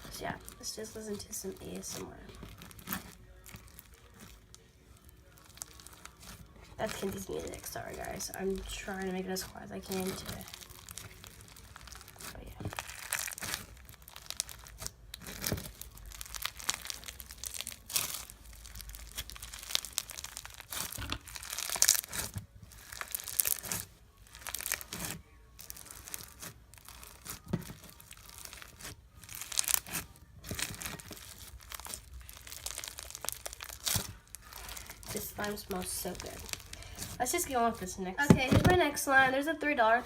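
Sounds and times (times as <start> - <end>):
slime crackling: 0.0 - 40.0.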